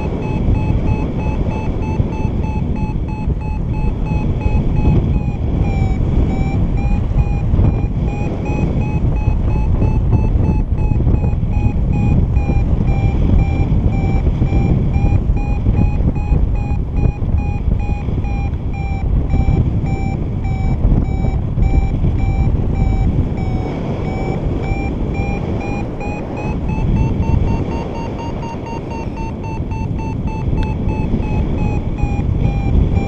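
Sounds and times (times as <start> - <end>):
variometer beeping: 0.0 - 33.0
wind rumble on microphone: 0.0 - 33.0.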